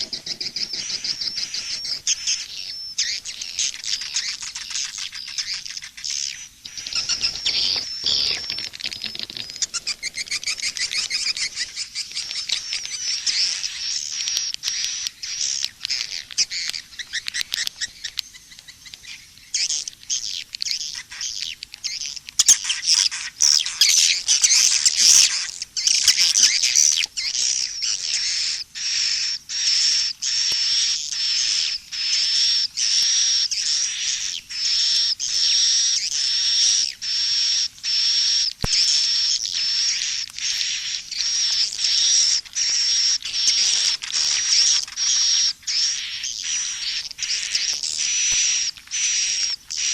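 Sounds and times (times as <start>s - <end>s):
swiftlet calls twittering: 0.0s - 49.9s.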